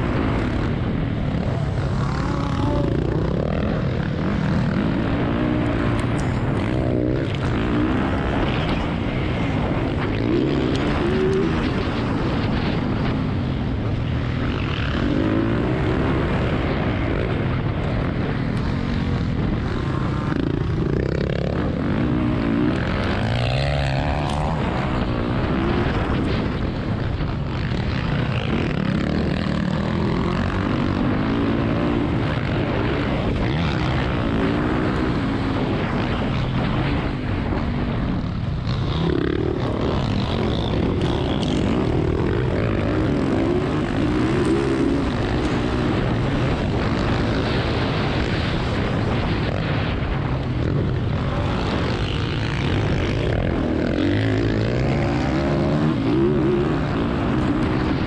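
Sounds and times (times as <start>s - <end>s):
dirt bike engine revving: 0.0s - 13.3s, 14.2s - 26.6s, 27.5s - 38.0s, 38.6s - 58.0s.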